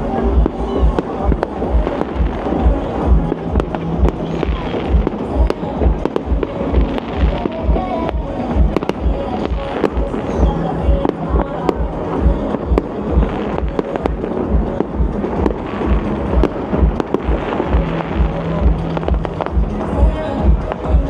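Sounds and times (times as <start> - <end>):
fireworks banging and crackling: 0.0 - 21.0
loud music with bass beat: 0.0 - 21.0.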